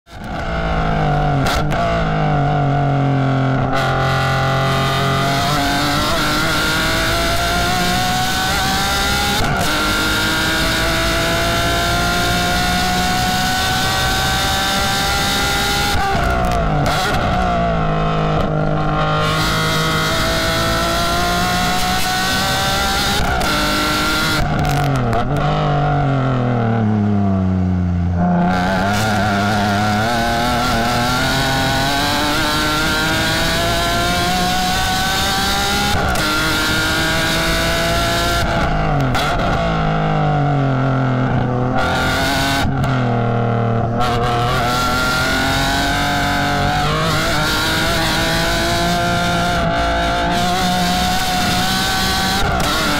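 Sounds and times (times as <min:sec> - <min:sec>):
race car engine at high revs: 0:00.1 - 0:52.9.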